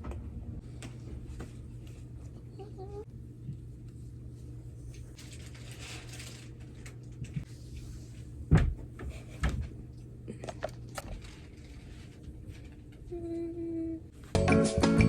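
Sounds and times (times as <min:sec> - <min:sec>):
low room hum: 0:00.0 - 0:14.4.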